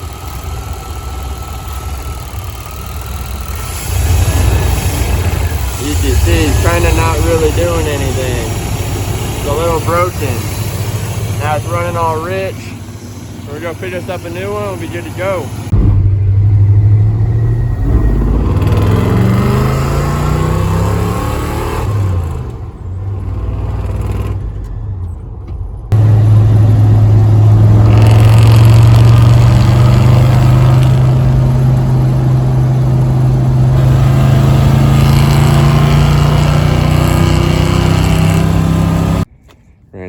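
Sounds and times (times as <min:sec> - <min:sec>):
truck engine revving: 0:00.0 - 0:24.6, 0:25.9 - 0:39.3
steady engine drone rising in pitch: 0:00.0 - 0:24.7, 0:25.8 - 0:39.3.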